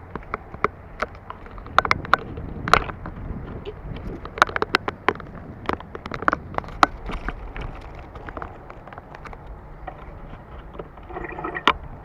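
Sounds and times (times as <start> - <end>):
bicycle rattling over dirt trail: 0.0 - 12.0
wind rumble on microphone: 0.0 - 12.0.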